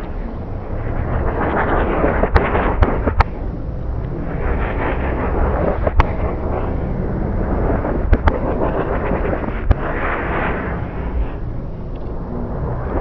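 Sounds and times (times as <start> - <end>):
deep rumbling wash: 0.0 - 13.0
hissing swell: 0.0 - 13.0
sharp cracks: 0.8 - 6.8, 7.4 - 12.2.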